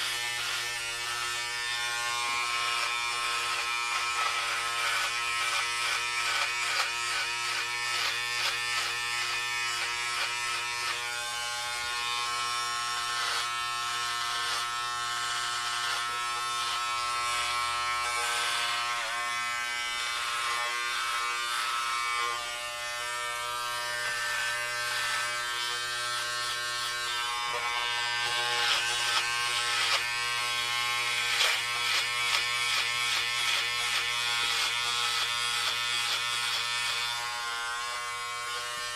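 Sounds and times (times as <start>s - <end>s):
crackly rasp of cutting hair: 0.0s - 38.9s
electric hair clippers buzzing: 0.0s - 38.9s.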